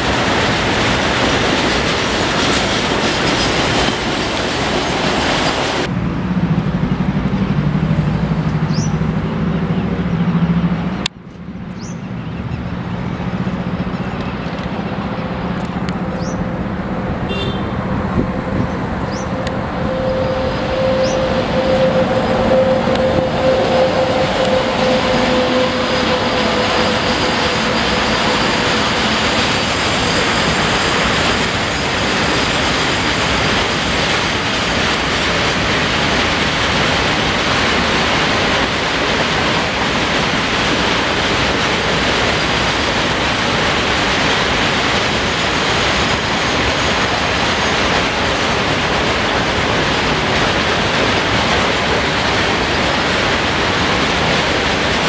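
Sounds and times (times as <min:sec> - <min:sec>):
wagons rumbling over track: 0:00.0 - 0:55.0.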